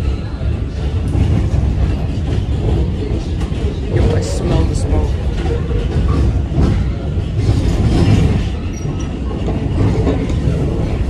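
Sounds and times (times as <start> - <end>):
subway train running on track: 0.0 - 11.0.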